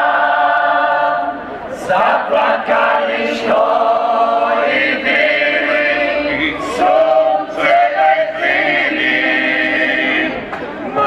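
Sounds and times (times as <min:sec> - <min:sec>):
group singing held notes: 0:00.0 - 0:11.0.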